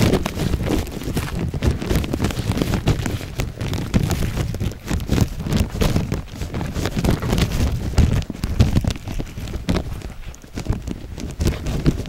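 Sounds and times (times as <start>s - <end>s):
footsteps on dirt: 0.0s - 12.0s
wind buffeting microphone: 0.0s - 12.0s.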